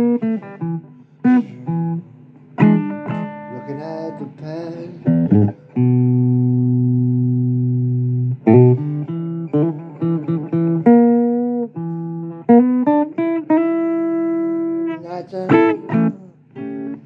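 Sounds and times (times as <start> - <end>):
blues guitar: 0.0 - 17.0.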